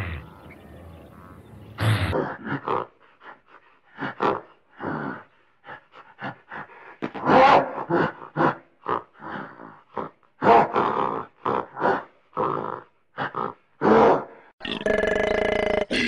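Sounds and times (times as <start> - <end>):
gorilla grunts and barks: 0.0 - 16.0.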